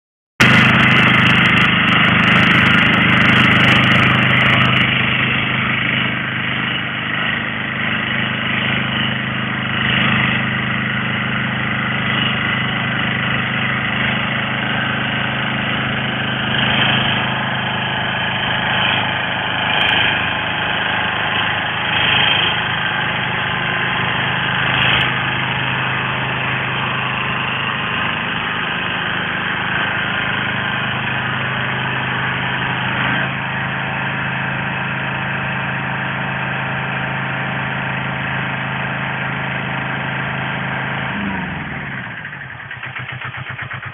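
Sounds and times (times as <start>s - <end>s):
walking tractor engine running: 0.4s - 43.9s.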